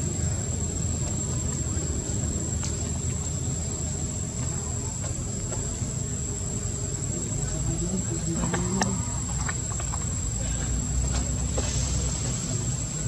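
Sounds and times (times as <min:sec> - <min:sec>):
insects droning: 0:00.0 - 0:13.0
low background rumble: 0:00.0 - 0:13.0.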